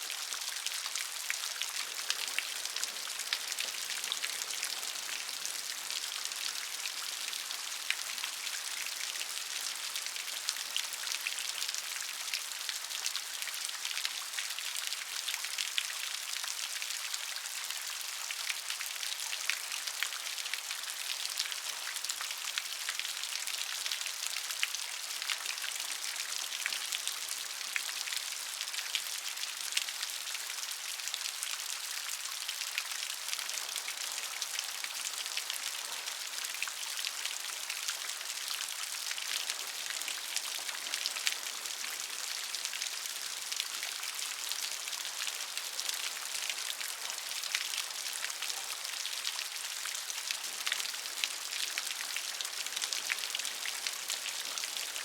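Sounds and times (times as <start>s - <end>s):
gentle rain pattering: 0.0s - 55.0s.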